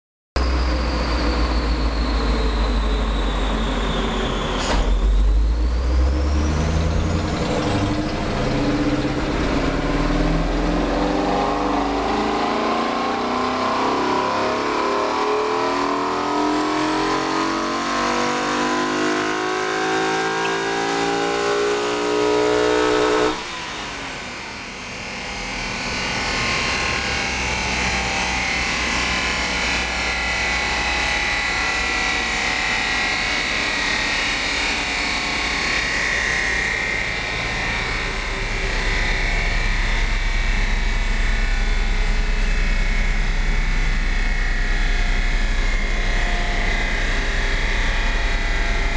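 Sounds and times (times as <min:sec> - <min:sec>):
car engine revving on dyno: 0:00.4 - 0:48.9
dyno rollers winding down: 0:00.4 - 0:48.9.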